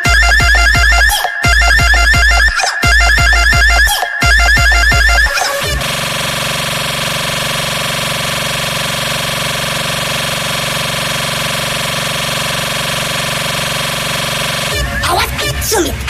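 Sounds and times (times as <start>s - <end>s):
loud buzzing horn tone: 0.0s - 16.0s.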